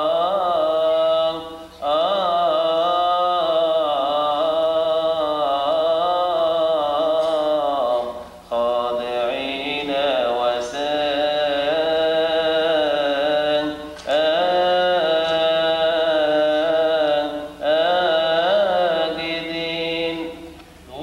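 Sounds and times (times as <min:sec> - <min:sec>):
liturgical chant singing: 0:00.0 - 0:21.0.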